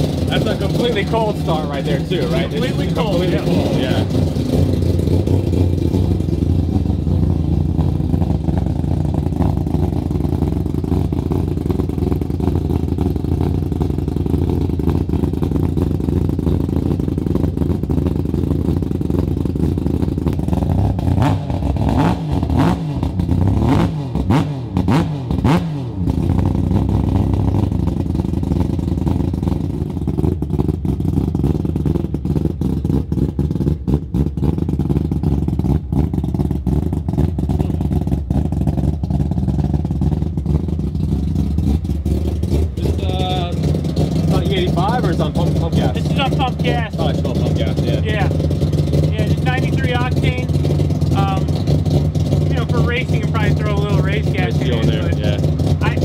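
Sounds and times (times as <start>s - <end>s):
rotary engine idling and revving: 0.0s - 56.0s.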